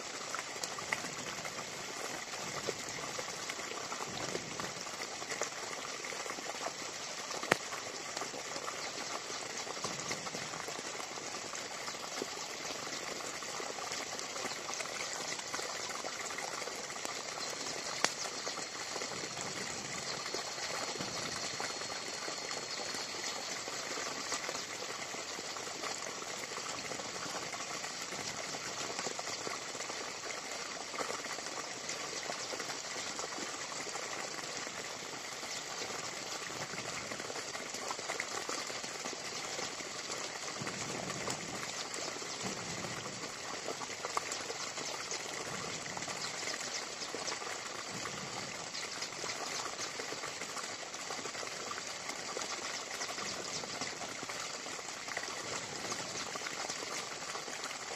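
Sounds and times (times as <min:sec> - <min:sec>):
campfire crackling and hissing: 0:00.0 - 0:51.0.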